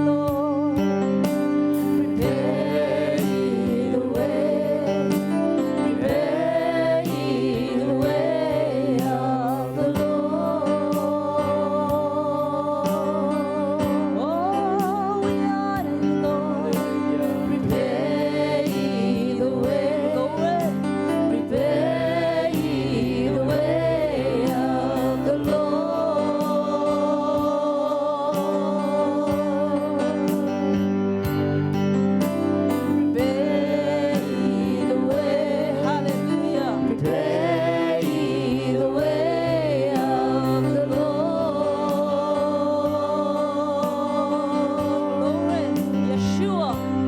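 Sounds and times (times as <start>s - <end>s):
sustained keyboard chords: 0.0s - 47.0s.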